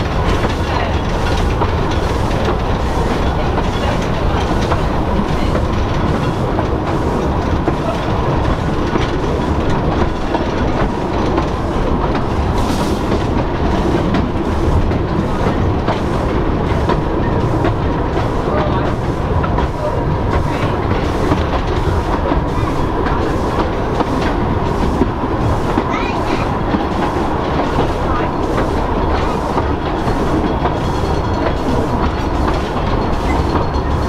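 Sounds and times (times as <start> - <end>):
railway carriage rumbling: 0.0 - 34.0
wheels clacking over rail joints: 0.0 - 34.0.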